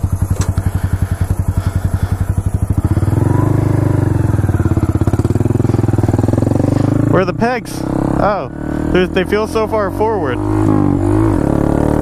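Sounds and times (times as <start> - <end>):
motorcycle engine chugging and revving: 0.0 - 12.0.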